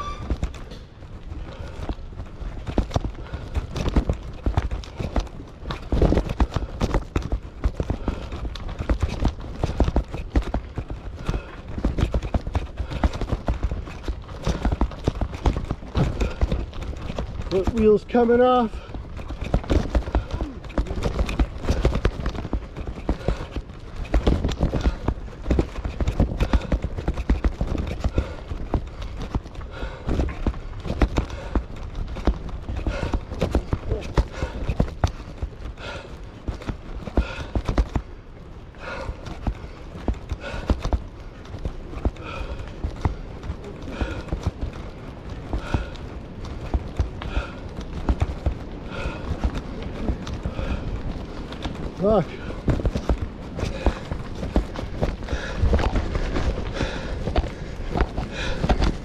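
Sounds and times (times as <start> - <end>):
bicycle rattling over rough road: 0.0 - 59.0
wind rumble on microphone: 0.0 - 59.0.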